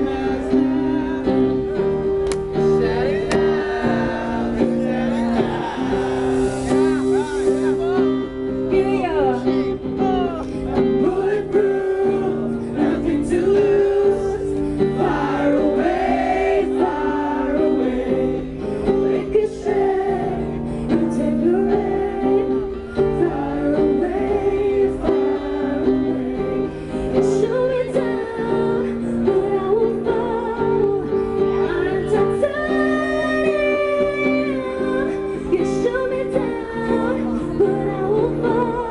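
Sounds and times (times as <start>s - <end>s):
acoustic guitar strumming: 0.0s - 38.9s
woman singing into microphone: 0.0s - 38.9s.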